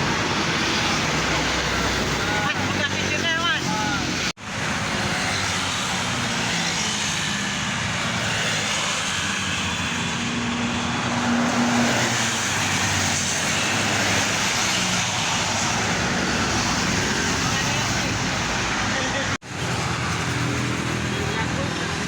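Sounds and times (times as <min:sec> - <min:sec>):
highway traffic rushing: 0:00.0 - 0:22.0.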